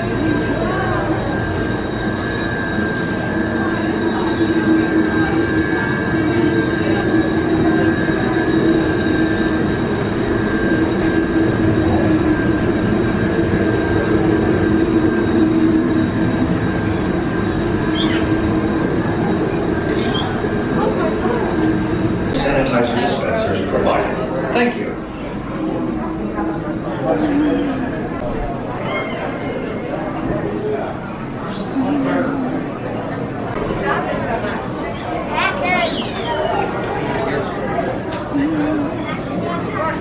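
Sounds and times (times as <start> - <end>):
loud machine-like drone: 0.0 - 40.0.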